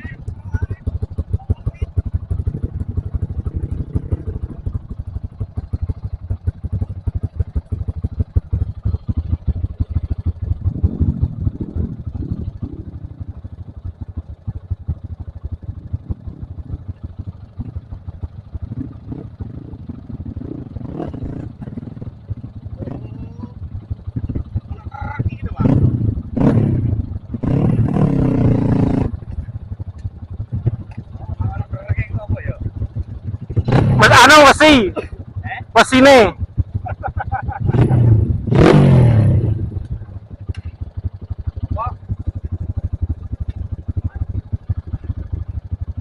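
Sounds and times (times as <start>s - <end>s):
motorcycle engine running off-road: 0.0s - 46.0s.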